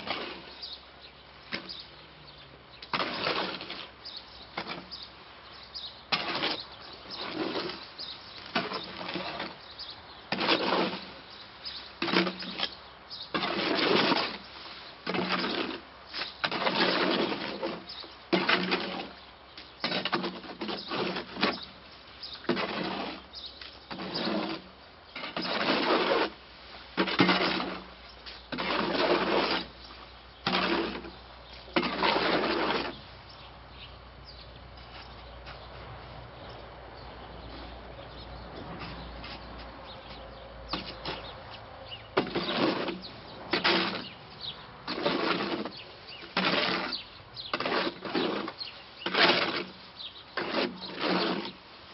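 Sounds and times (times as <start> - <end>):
shovel scraping concrete: 0.0 - 0.8, 1.5 - 2.0, 2.8 - 5.2, 6.0 - 33.4, 38.7 - 51.9.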